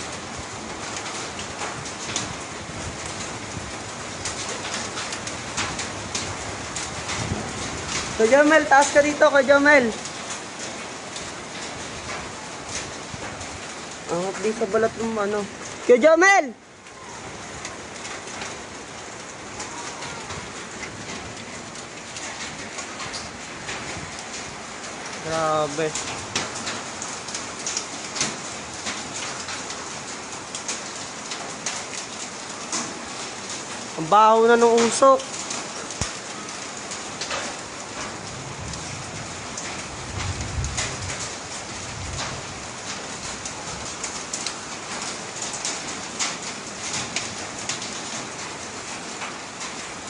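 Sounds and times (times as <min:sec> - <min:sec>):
rain hiss: 0:00.0 - 0:50.0.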